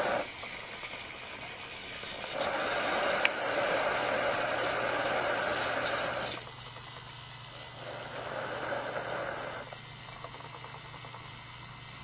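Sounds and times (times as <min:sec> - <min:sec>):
toy train whirring rattle: 0:00.0 - 0:12.0.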